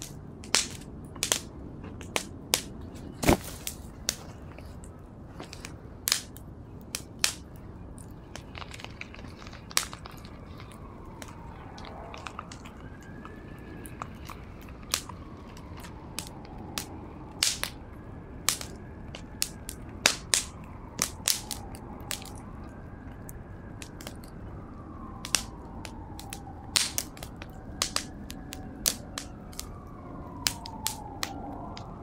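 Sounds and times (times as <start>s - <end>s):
fire crackling: 0.0s - 32.0s
low rush of flame: 0.0s - 32.0s.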